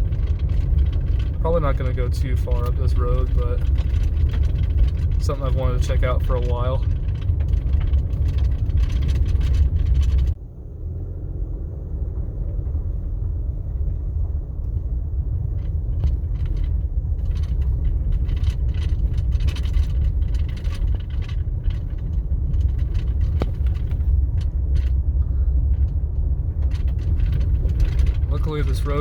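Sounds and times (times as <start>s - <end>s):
rattles and crunches over rocks: 0.0s - 10.4s, 12.2s - 29.0s
vehicle engine and tyres rumbling: 0.0s - 29.0s.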